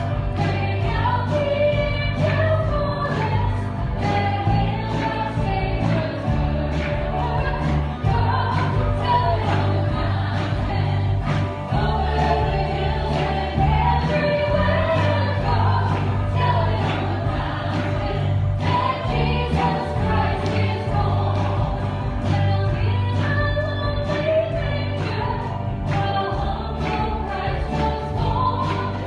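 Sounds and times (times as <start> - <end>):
band playing worship music: 0.0 - 29.0
bass line: 0.0 - 29.0
voices singing: 0.0 - 29.0.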